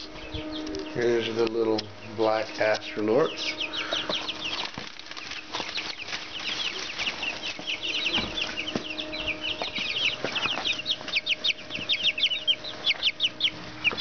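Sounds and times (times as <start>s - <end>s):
chicks peeping: 0.0s - 14.0s
faint steady hum: 0.0s - 14.0s.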